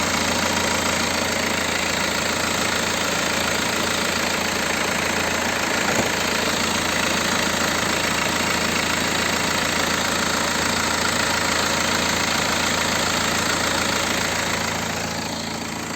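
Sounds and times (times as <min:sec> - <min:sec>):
diesel engine idling with clatter: 0:00.0 - 0:15.9.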